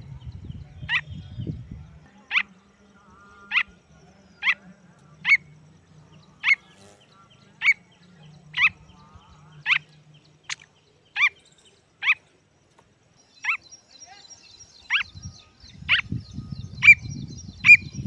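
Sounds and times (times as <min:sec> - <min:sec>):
francolin calling: 0:00.8 - 0:12.4, 0:13.2 - 0:18.0.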